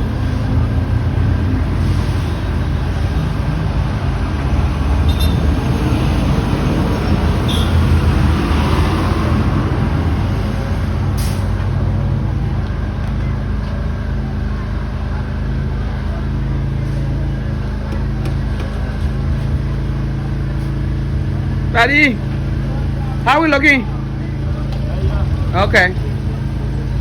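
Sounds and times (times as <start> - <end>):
road traffic noise: 0.0 - 27.0
vehicle engine running: 0.0 - 27.0.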